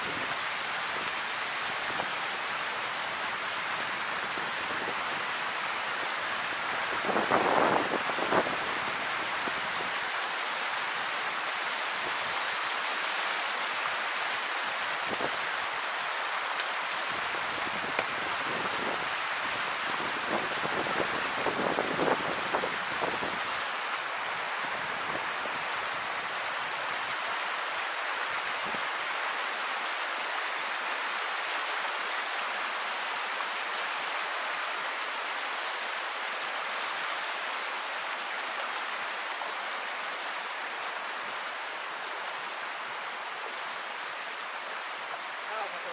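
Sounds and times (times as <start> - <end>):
river water flowing in cascades: 0.0 - 45.9.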